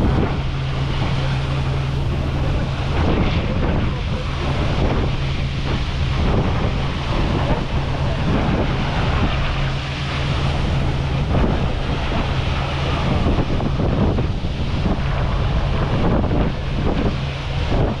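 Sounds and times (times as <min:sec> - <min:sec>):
boat engine drone: 0:00.0 - 0:18.0
wind buffeting microphone: 0:00.0 - 0:18.0.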